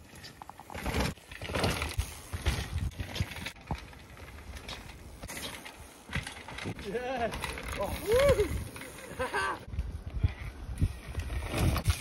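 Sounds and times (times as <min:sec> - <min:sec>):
bike knocking and rattling: 0:00.0 - 0:12.0
bike tyres crunching on dirt: 0:00.0 - 0:12.0.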